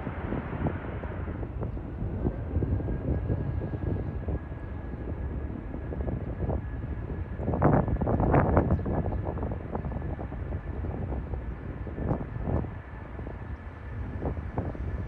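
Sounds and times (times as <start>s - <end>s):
jet engine noise: 0.0s - 15.0s
thin steady whine: 0.0s - 15.0s
wind buffeting microphone: 0.0s - 15.0s.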